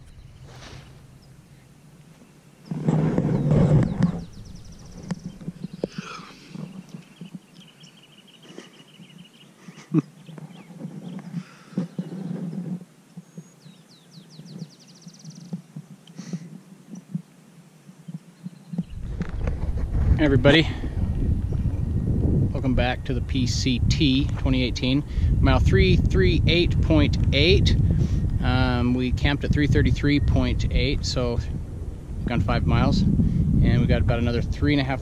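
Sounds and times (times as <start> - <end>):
songbirds trilling: 0.0 - 26.6, 27.3 - 35.0.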